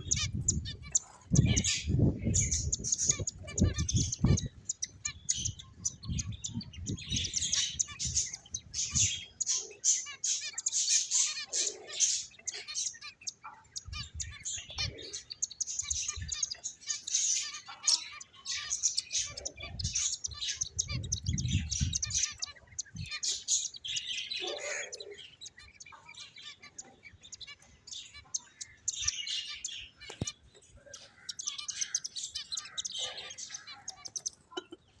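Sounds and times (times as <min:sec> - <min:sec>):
finches chirping: 0:00.0 - 0:35.0.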